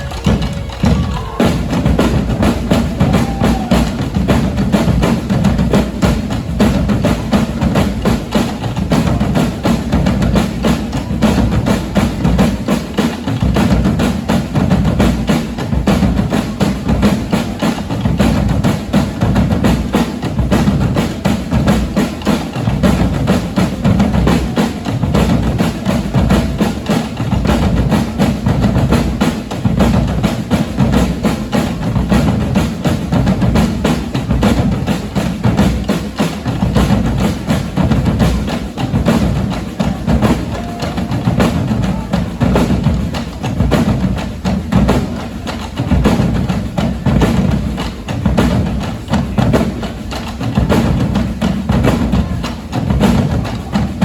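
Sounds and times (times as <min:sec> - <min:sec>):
deep bass drums: 0:00.0 - 0:49.9
percussion band drumming: 0:00.0 - 0:54.0.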